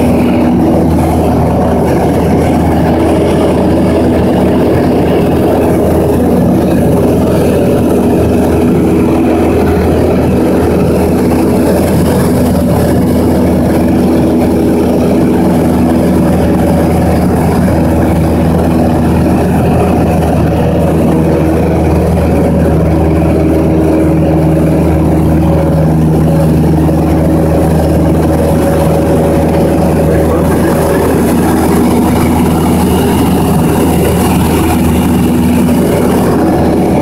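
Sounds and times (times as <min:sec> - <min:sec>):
aircraft engine humming: 0:00.0 - 0:37.0.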